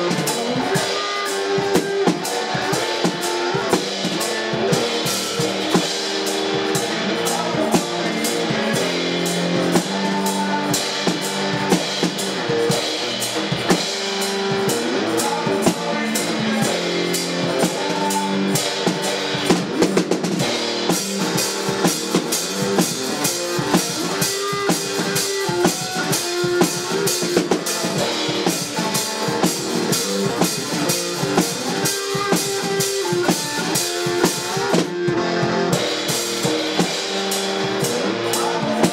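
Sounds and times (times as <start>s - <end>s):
drum kit steady beat: 0.0s - 38.9s
electric guitar: 0.0s - 38.9s.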